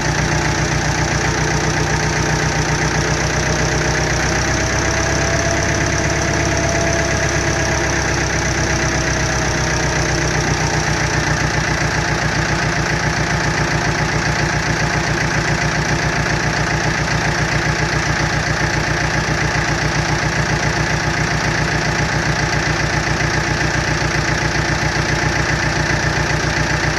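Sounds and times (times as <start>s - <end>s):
diesel tractor engine idling: 0.0s - 26.9s.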